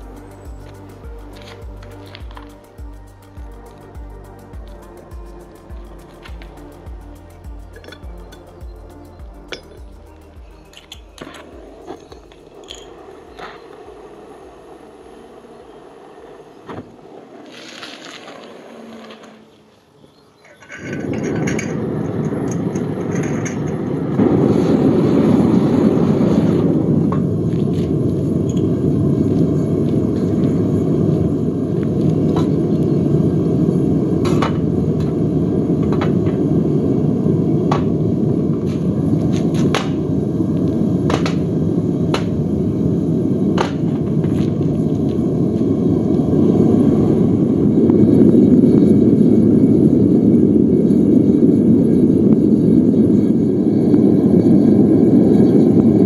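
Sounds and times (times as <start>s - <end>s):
gas burner rumbling: 0.0s - 56.0s.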